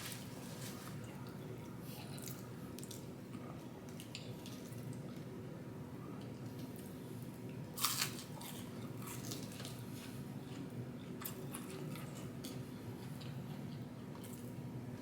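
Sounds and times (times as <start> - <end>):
soft wet chewing: 0.0 - 5.3, 6.2 - 14.7.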